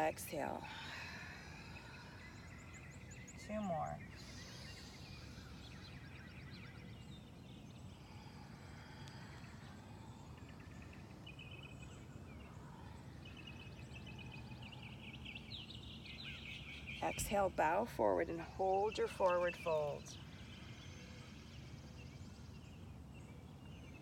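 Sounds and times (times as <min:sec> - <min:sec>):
birds chirping and trilling: 0:00.0 - 0:24.0
low background rumble: 0:00.0 - 0:24.0.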